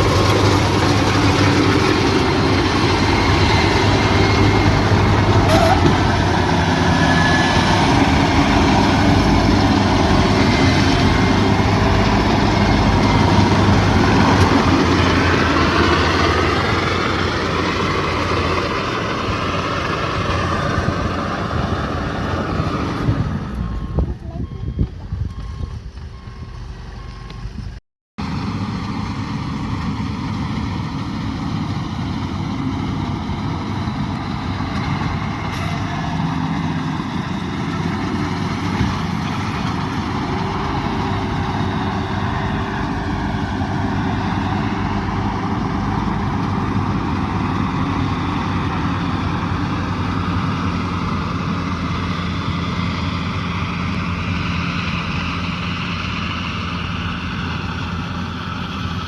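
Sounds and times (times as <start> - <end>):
combine harvester engine running: 0.0 - 59.0.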